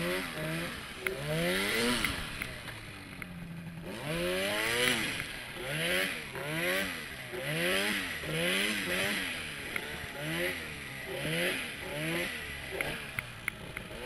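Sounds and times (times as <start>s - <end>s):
snowmobile engine revving: 0.0s - 3.0s, 3.7s - 14.0s.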